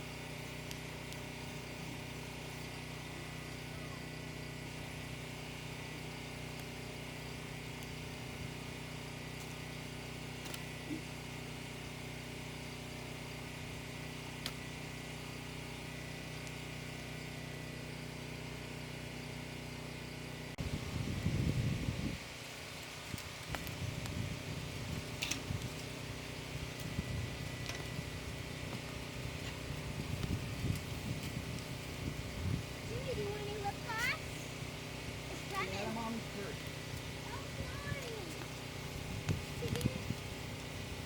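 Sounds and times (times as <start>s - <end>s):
engine humming steadily: 0.0s - 41.0s.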